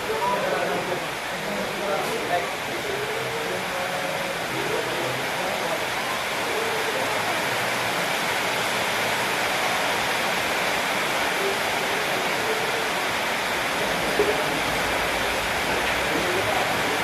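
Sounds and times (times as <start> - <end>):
faint murmured voices: 0.0 - 17.0
steady rushing hiss: 0.0 - 17.0.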